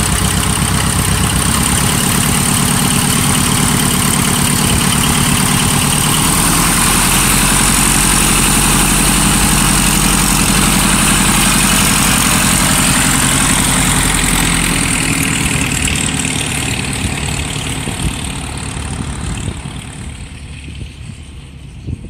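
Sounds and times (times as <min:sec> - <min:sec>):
plane engine and propeller: 0:00.0 - 0:22.0.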